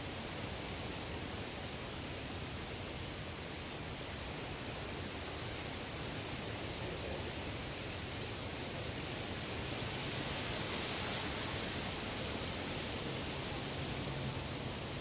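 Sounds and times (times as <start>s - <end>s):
steady woodland rushing noise: 0.0s - 15.0s.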